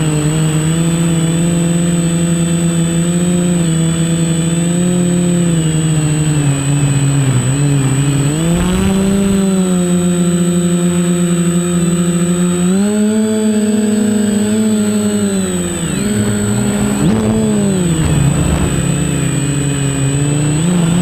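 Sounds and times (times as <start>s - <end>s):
quadcopter propellers buzzing: 0.0s - 21.0s.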